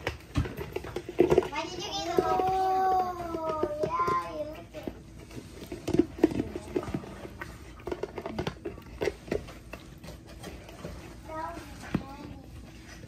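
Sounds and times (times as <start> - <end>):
dog licking and gnawing: 0.0 - 13.0.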